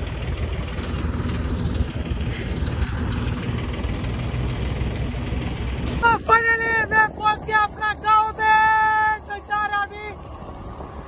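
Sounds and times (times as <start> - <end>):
aircraft engines roaring: 0.0 - 11.0.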